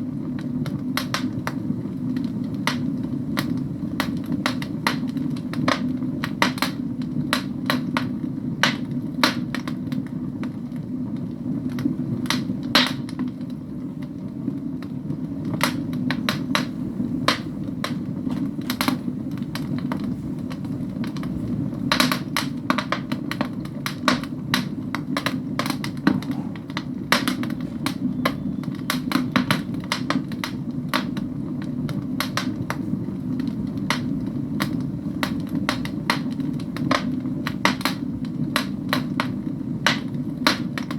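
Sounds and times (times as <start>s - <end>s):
low rush of fire: 0.0s - 40.9s
wood fire crackling: 0.0s - 40.9s.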